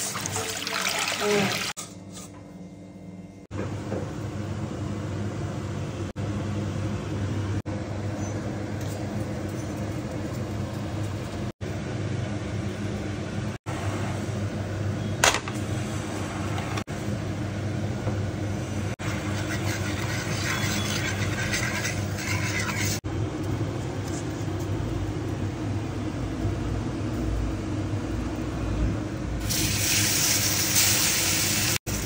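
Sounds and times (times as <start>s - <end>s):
low kitchen hum: 0.0s - 32.0s.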